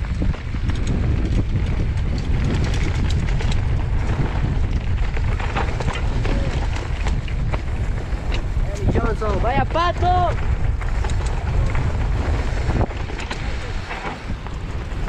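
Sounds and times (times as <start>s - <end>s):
bike clicks and rattles: 0.0s - 15.0s
tyres rumbling over trail: 0.0s - 15.0s
wind buffeting microphone: 0.0s - 15.0s.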